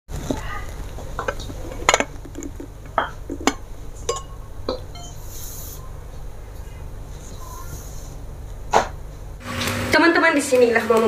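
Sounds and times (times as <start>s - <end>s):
steady low hum: 0.1s - 9.5s.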